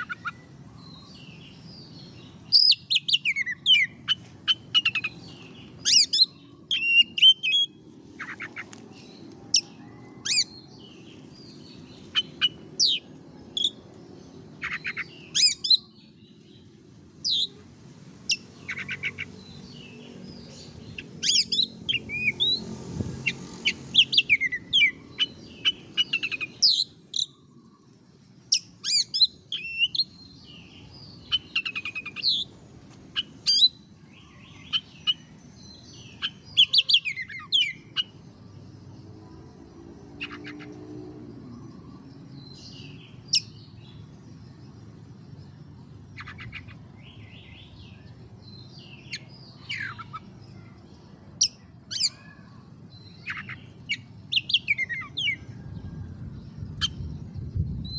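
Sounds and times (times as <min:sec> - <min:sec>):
bird singing: 0:00.0 - 0:57.9.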